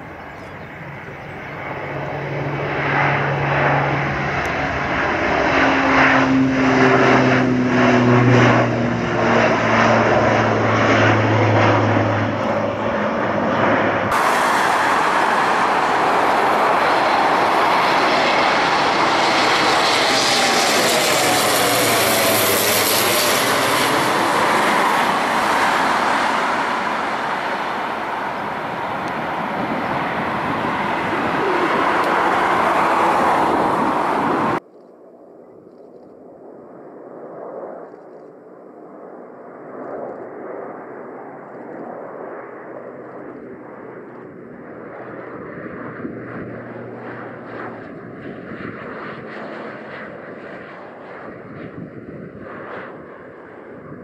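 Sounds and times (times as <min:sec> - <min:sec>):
turboprop propeller drone: 0:00.0 - 0:34.7, 0:35.7 - 0:54.0
plane passing overhead: 0:00.0 - 0:54.0.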